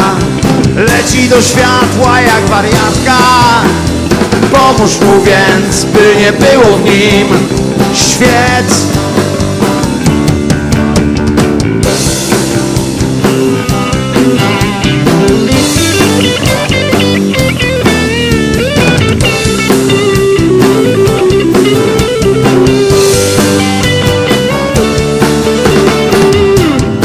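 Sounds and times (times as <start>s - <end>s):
bending lead guitar melody: 0.0s - 27.0s
rock band instrumental: 0.0s - 27.0s.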